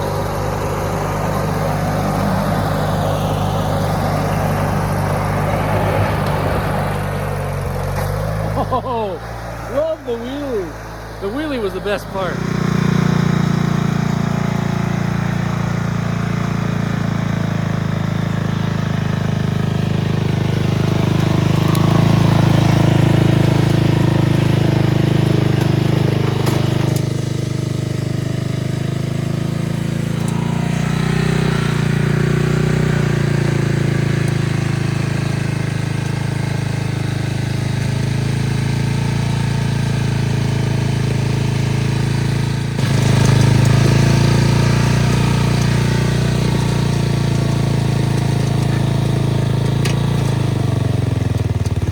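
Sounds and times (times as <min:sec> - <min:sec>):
riding lawn mower engine: 0:00.0 - 0:51.9.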